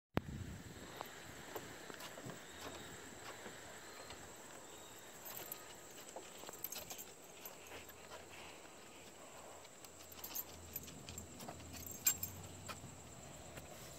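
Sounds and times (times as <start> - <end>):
footsteps on wooden deck: 0.9 - 13.9.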